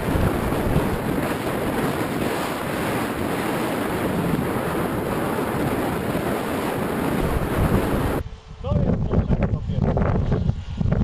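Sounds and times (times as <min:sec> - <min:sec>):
wind noise over microphone: 0:00.0 - 0:11.0.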